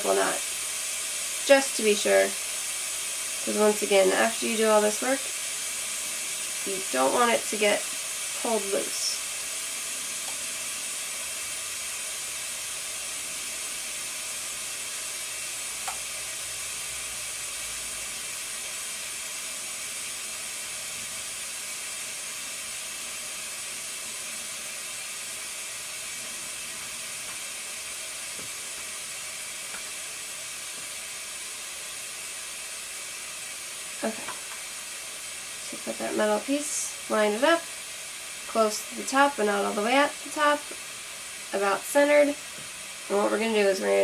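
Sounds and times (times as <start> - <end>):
steady background hiss: 0.0 - 44.0.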